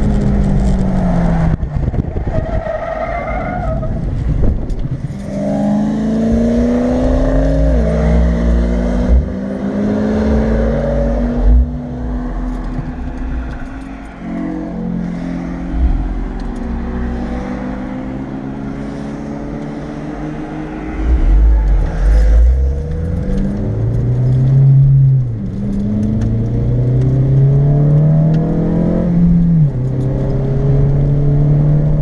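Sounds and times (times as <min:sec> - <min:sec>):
gear upshifts: 0:00.0 - 0:28.5
car engine idling and accelerating: 0:00.0 - 0:32.0.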